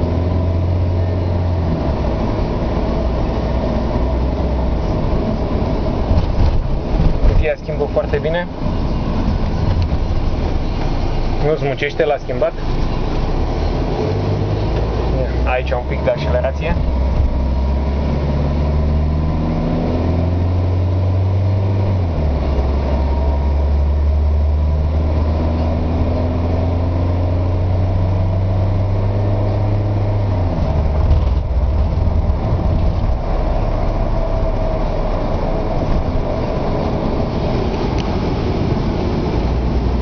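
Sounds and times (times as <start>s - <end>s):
car engine accelerating: 0.0s - 40.0s
road noise inside car: 0.0s - 40.0s.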